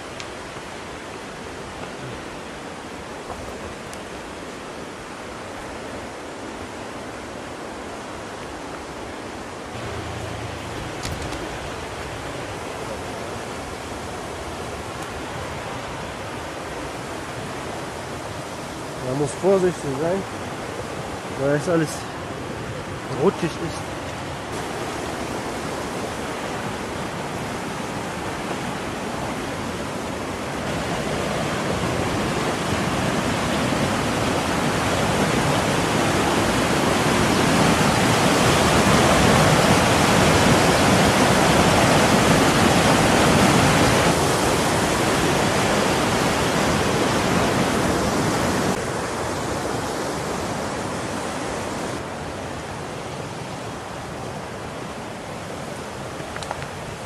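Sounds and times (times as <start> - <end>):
rushing falling water: 0.0 - 57.0.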